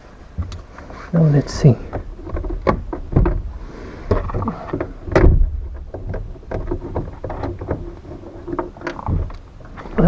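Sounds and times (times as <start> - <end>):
metal parts knocking: 1.5 - 10.0.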